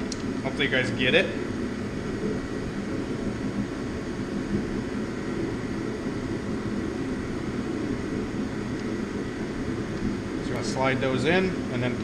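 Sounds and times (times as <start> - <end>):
machinery running low roar: 0.0 - 12.0.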